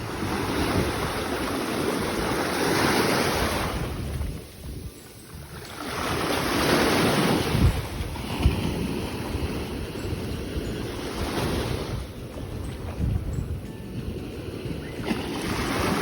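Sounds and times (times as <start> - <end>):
waves washing on shore: 0.0 - 16.0
wind buffeting microphone: 0.0 - 16.0.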